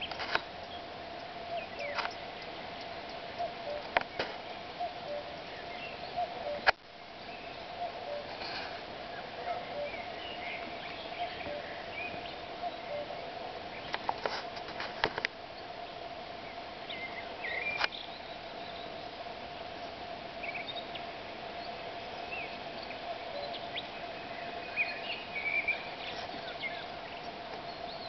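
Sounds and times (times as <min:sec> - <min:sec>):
birds chirping and calling: 0:00.0 - 0:14.2, 0:15.5 - 0:28.0.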